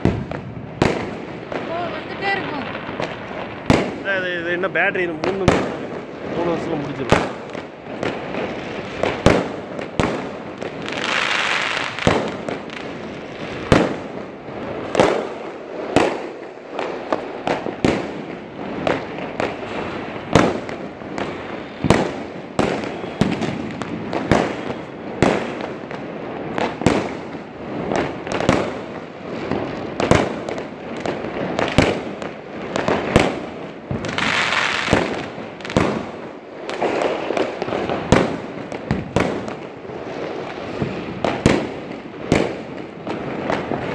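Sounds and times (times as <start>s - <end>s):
fireworks banging: 0.0s - 43.9s
fireworks hissing: 0.8s - 43.9s.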